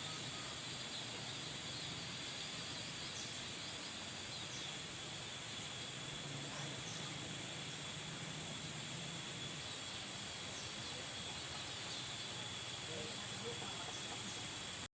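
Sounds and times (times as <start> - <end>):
background hiss: 0.0 - 14.9
high-pitched insect drone: 0.0 - 14.9
small birds chirping: 0.0 - 14.9.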